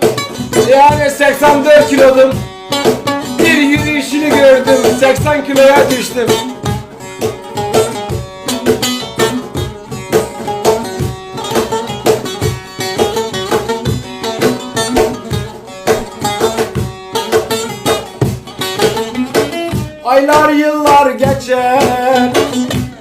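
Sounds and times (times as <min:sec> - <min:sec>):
plucked-string melody: 0:00.0 - 0:23.0
steady drum beat: 0:00.0 - 0:23.0.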